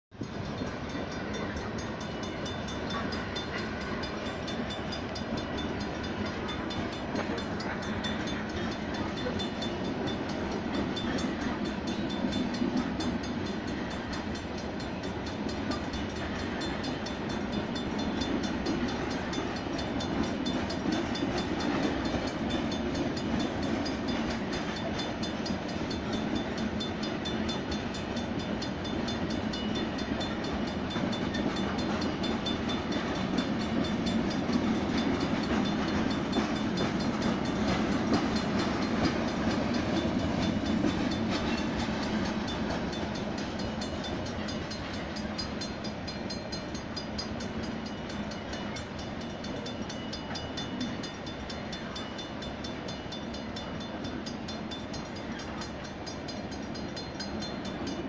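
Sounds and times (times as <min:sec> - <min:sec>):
freight train cars rolling: 0:00.2 - 0:58.0.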